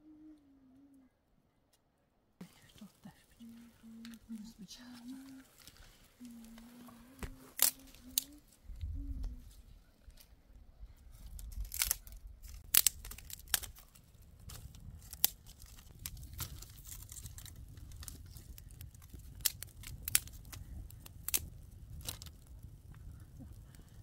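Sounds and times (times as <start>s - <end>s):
low steady rumble: 2.4s - 24.0s
dry twigs snapping: 2.5s - 9.4s, 11.1s - 24.0s.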